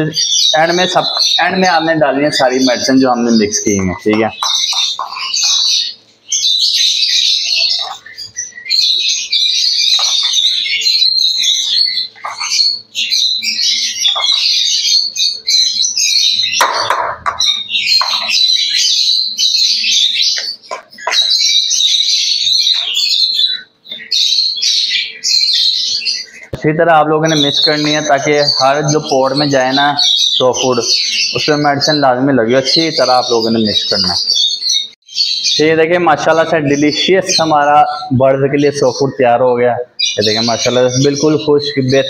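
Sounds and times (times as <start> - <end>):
birds chattering high-pitched: 0.0 - 42.0.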